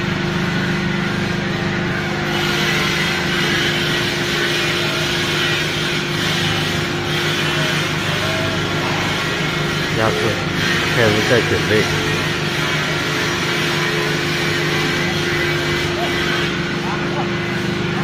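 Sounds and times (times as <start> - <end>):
hydraulic press machine hum: 0.0 - 18.0.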